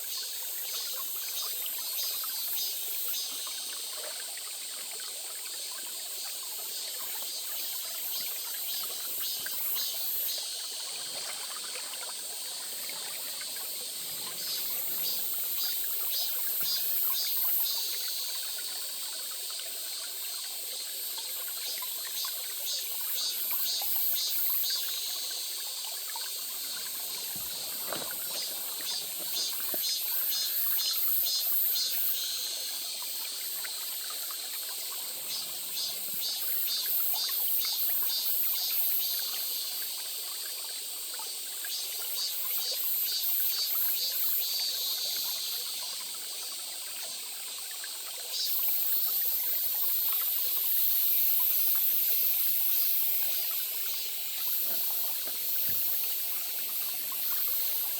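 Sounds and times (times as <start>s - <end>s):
stream trickling over stones: 0.0s - 57.9s
insects calling high pulses: 5.7s - 40.2s, 41.5s - 47.2s, 48.3s - 57.9s.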